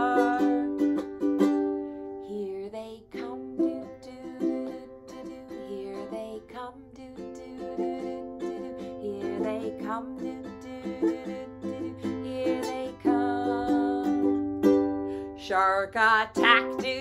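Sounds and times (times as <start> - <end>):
ukulele strumming chords: 0.0 - 17.0.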